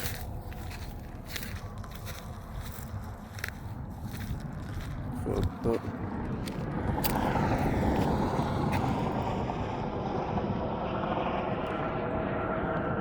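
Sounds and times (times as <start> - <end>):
highway traffic rushing past: 0.0 - 13.0.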